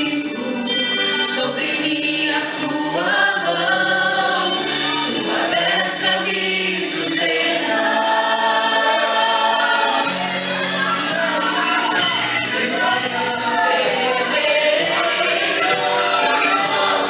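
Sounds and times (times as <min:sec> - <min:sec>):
choir singing worship song: 0:00.0 - 0:17.0.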